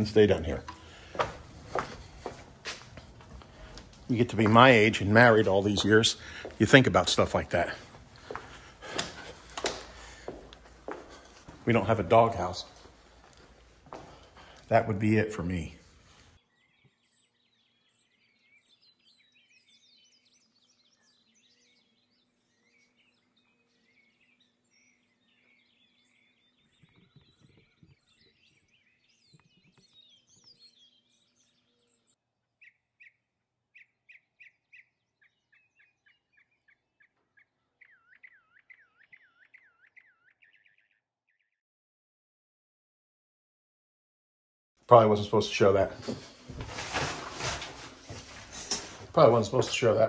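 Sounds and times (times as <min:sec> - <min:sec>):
birds chirping and calling: 0:00.0 - 0:13.4, 0:14.1 - 0:41.5.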